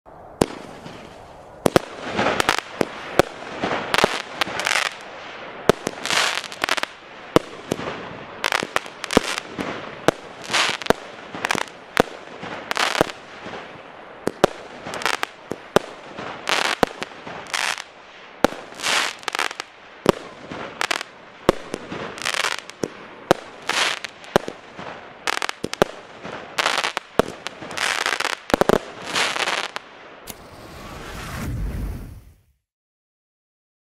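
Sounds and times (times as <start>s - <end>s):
hissing and crackling stars: 0.1s - 32.6s
firework reports: 0.2s - 32.6s.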